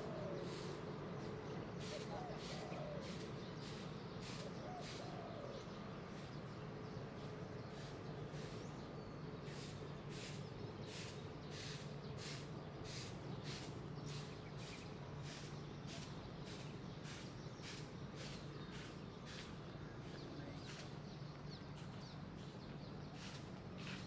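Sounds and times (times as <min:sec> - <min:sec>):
low outdoor hum: 0:00.0 - 0:24.0.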